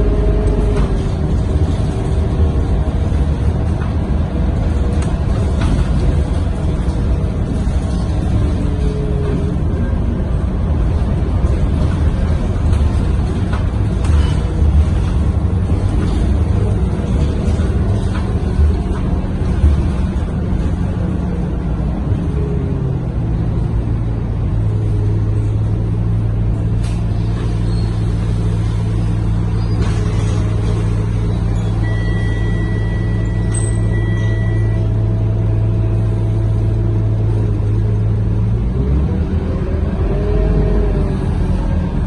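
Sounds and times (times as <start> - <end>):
bus engine droning: 0.0 - 42.0.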